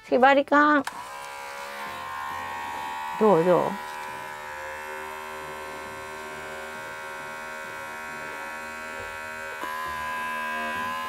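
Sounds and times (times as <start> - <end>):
electric hair clippers buzzing: 0.7 - 11.0.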